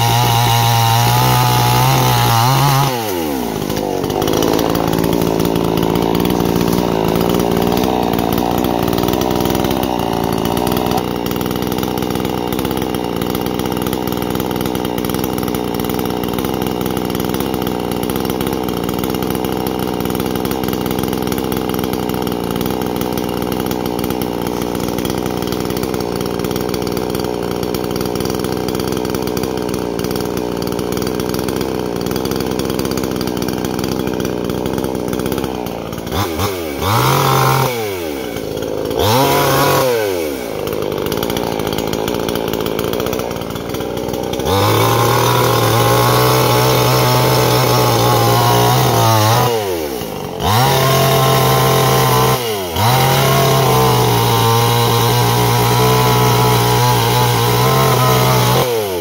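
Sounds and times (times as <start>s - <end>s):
chainsaw engine idling: 0.0s - 59.0s.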